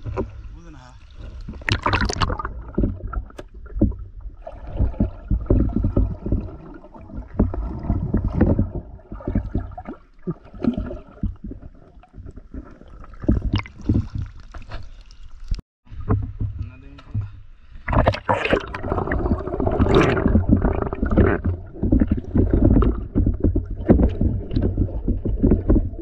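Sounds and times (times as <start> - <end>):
underwater knocks and thumps: 0.0 - 14.8, 15.9 - 26.0
underwater sloshing and gurgling: 0.0 - 26.0.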